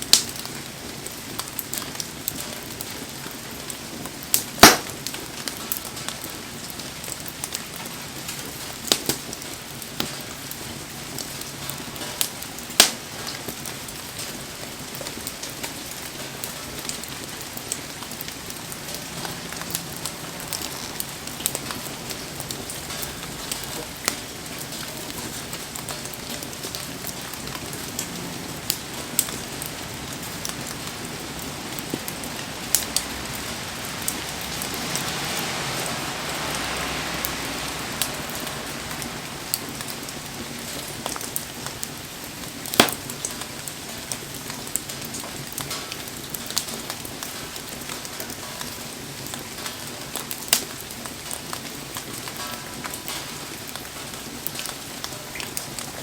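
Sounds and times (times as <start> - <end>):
bonfire crackling and popping: 0.0 - 35.4, 36.4 - 56.0
rain falling: 0.0 - 56.0.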